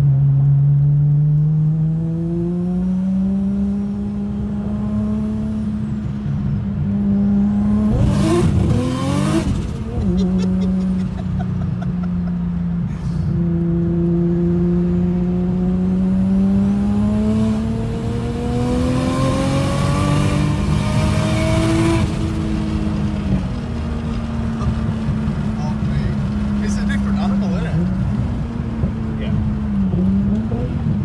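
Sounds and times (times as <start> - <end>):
car engine from inside cabin: 0.0 - 31.0.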